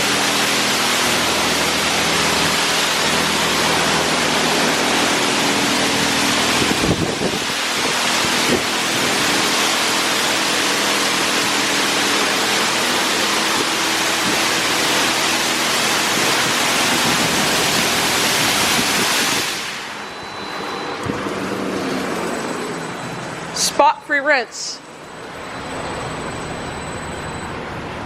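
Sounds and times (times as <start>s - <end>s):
water jets spraying car: 0.0s - 24.2s
machine hum: 0.0s - 28.0s.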